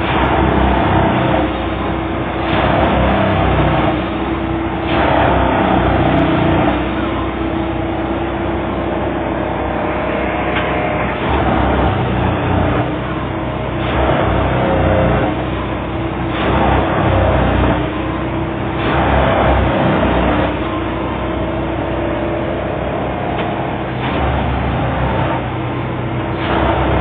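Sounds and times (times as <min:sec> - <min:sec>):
tamping surges: 0:00.0 - 0:27.0
track-tamping machine humming: 0:00.0 - 0:27.0.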